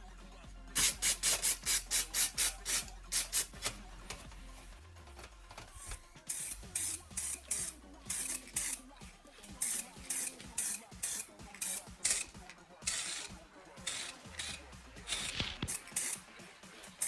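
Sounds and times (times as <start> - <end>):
hand sanding scrapes: 0.8 - 4.3, 5.8 - 17.0.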